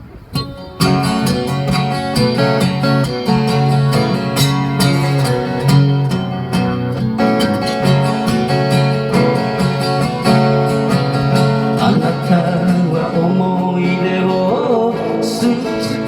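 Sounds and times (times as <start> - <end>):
acoustic guitar strumming: 0.2 - 16.0.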